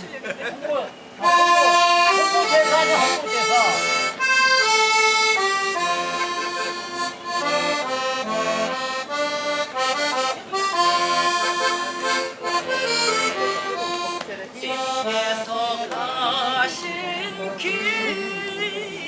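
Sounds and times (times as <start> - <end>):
accordion melody: 1.2 - 19.0.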